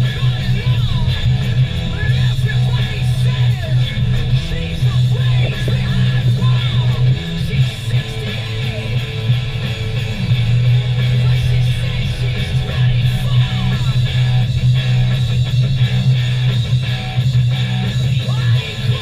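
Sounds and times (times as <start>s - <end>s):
guitar-led background music: 0.0s - 19.0s.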